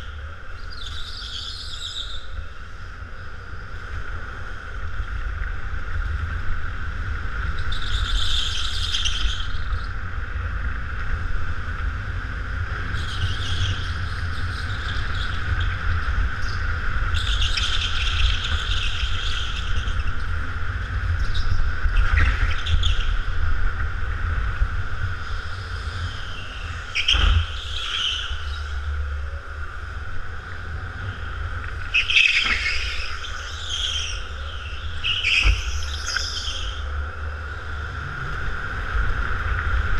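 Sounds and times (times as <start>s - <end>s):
go-kart engine whine: 0.0s - 39.9s.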